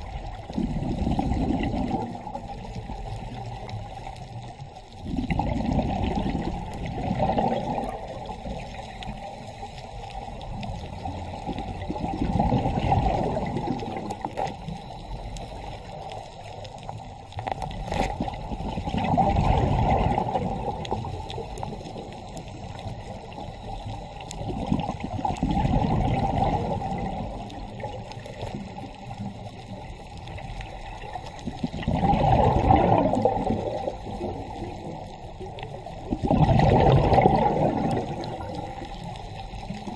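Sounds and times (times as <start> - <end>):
gurgling underwater bubbles: 0.0 - 39.9
underwater noise: 0.0 - 39.9.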